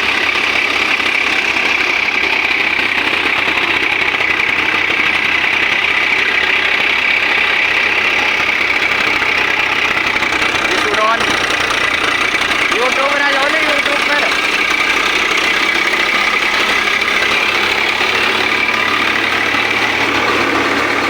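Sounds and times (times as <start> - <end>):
tractor diesel engine chugging: 0.0 - 21.0.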